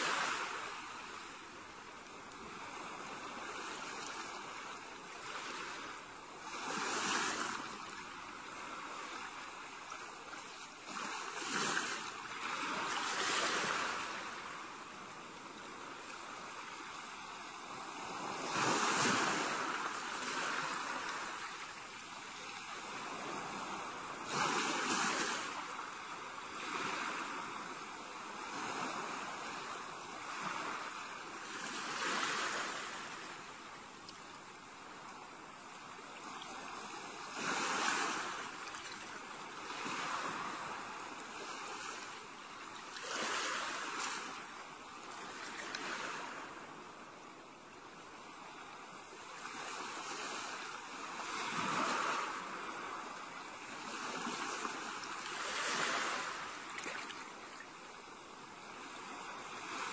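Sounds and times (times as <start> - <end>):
small waves washing onto sand: 0.0 - 59.9.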